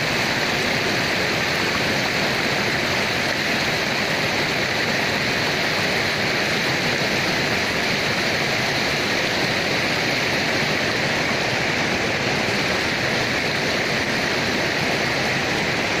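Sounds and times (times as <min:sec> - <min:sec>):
river rushing over boulders: 0:00.0 - 0:16.0.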